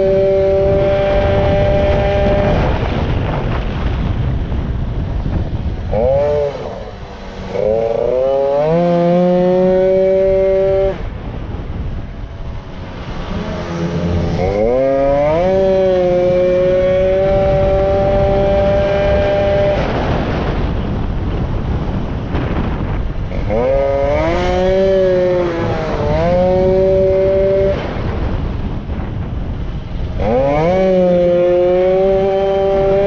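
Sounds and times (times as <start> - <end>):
moped engine at full throttle: 0.0 - 33.0
wind rushing past microphone: 0.0 - 33.0.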